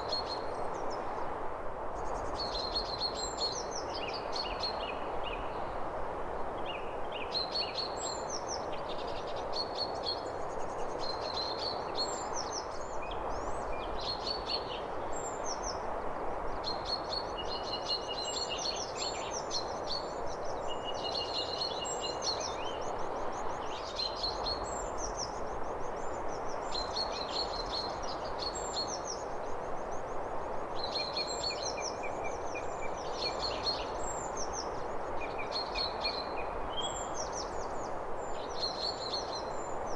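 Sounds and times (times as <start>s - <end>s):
songbirds chirping and trilling: 6.4s - 39.9s.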